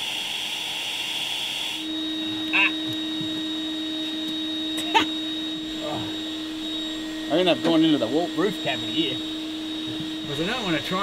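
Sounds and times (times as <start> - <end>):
vacuum cleaner hum and air rush: 0.0 - 11.0.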